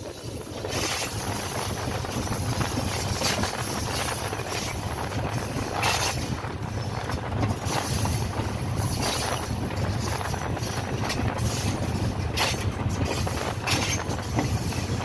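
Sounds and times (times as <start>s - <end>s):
diesel locomotive engine rumble: 0.0s - 15.0s
rail and wind noise: 0.0s - 15.0s.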